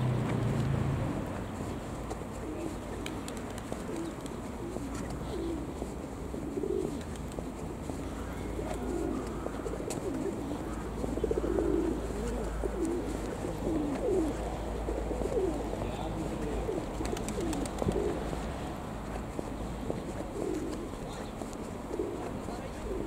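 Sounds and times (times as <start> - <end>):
low cooing bird calls: 1.0 - 23.0.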